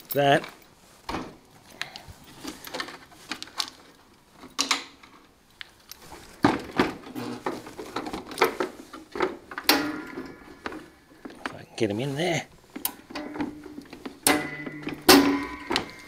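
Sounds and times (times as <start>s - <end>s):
cables being moved: 0.0s - 16.0s.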